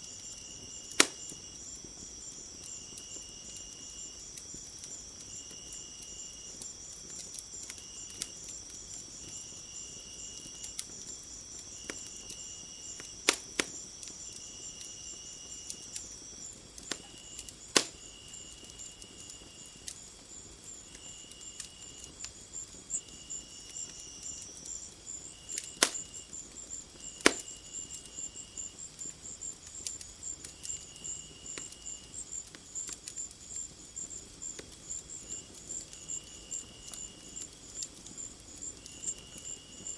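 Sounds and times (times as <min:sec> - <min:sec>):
crickets chirping: 0:00.0 - 0:39.9
fireplace fire crackling: 0:00.0 - 0:39.9
insects trilling: 0:00.0 - 0:39.9
sharp fire pops: 0:00.0 - 0:39.9.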